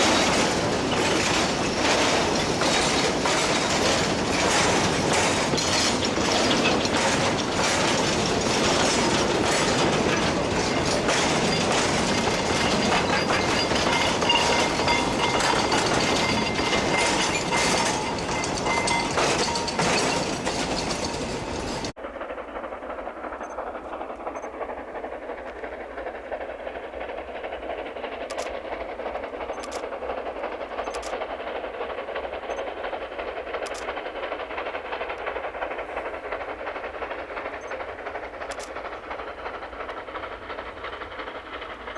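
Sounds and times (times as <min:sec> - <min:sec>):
train wheels clicking over rail joints: 0:00.0 - 0:41.9.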